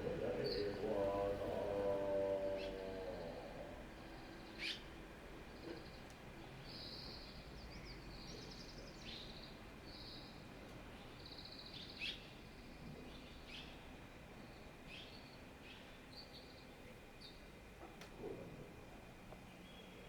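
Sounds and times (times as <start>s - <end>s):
small birds trilling and chirping: 0.0s - 17.5s
faint background hiss: 0.0s - 20.0s.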